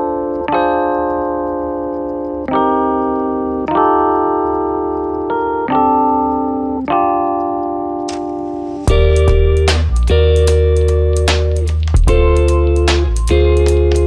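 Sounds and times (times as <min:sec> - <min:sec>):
keyboard playing slow chords: 0:00.0 - 0:14.0.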